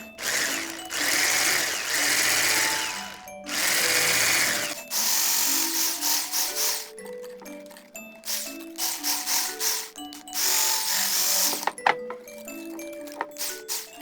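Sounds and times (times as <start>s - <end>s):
electric kitchen mixer running: 0.0s - 7.0s, 8.3s - 12.0s, 13.1s - 14.0s.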